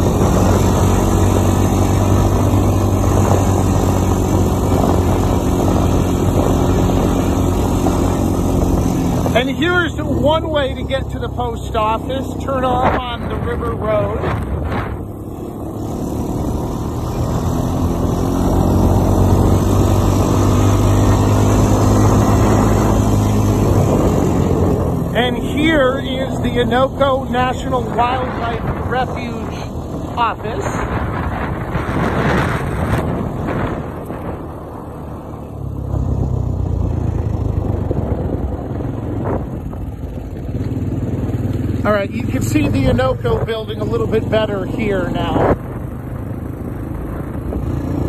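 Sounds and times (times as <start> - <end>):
quad bike engine running: 0.0 - 48.0.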